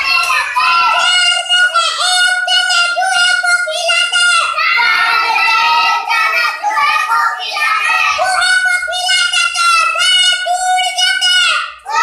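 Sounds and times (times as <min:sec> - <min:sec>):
boy chanting in sing-song voice: 0:00.0 - 0:12.0.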